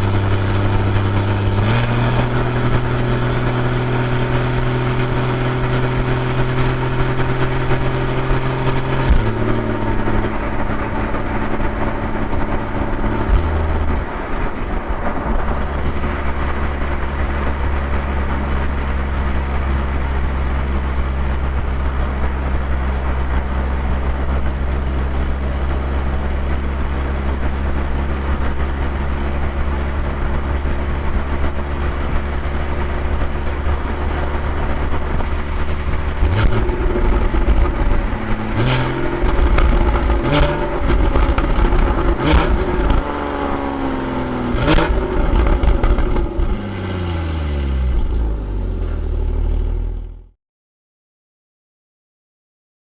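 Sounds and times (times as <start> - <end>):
car engine and exhaust drone: 0.0 - 50.4.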